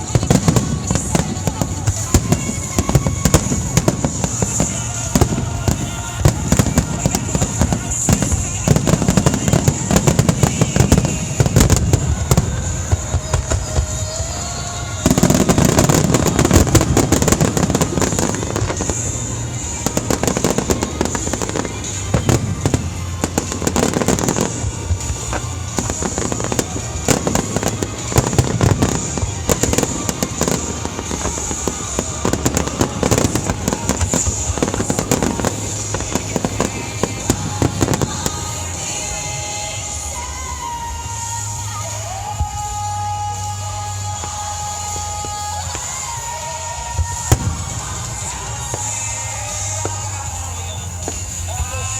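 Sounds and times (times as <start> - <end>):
fireworks bursting and crackling: 0.0 - 51.9.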